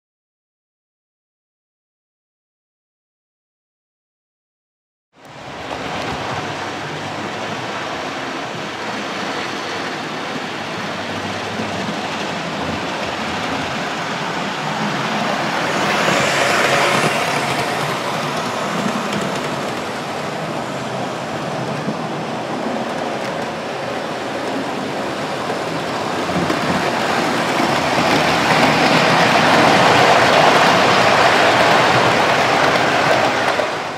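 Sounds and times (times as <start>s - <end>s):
model trains rumbling on track: 5.2s - 33.9s.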